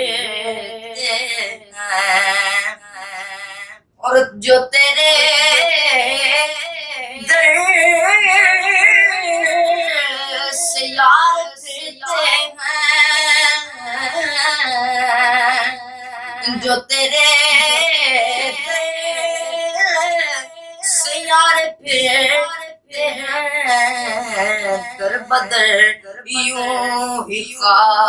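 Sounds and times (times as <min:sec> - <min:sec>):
boy singing: 0:00.0 - 0:28.0.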